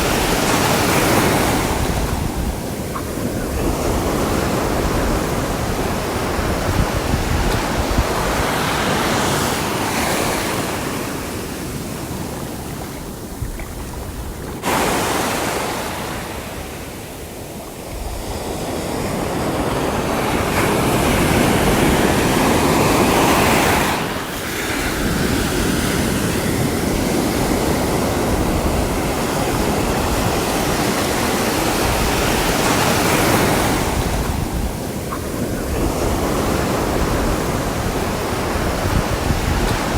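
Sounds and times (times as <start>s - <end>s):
sea waves breaking ashore: 0.0s - 39.9s.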